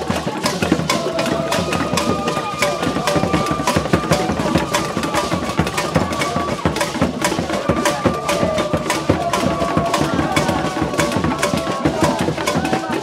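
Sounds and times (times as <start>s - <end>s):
drums and percussion strikes: 0.0s - 13.0s.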